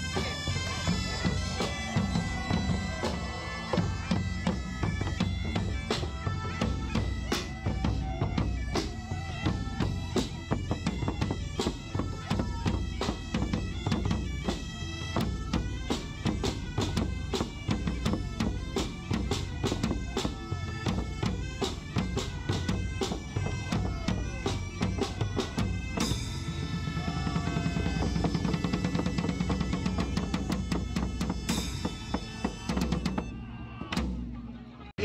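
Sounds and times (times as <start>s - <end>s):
bagpipe music: 0.0s - 33.8s
steady drum beat: 0.0s - 34.4s.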